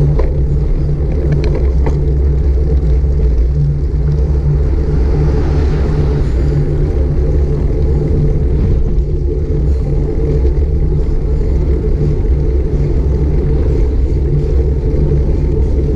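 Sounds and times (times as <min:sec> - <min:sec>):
road noise: 0:00.0 - 0:15.9
wind buffeting microphone: 0:00.0 - 0:15.9.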